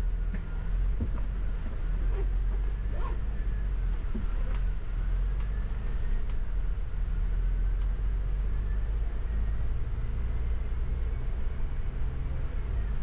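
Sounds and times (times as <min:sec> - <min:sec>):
bus engine rumble: 0:00.0 - 0:13.0
faint whine: 0:00.0 - 0:13.0.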